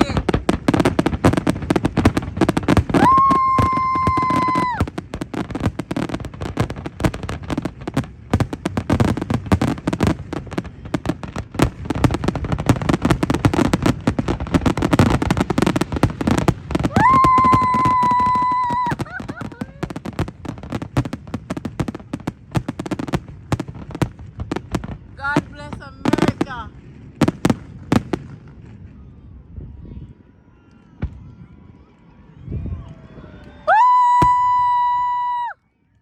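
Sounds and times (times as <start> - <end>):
fireworks bangs and crackles: 0.0 - 30.3, 30.9 - 32.0, 32.7 - 35.5.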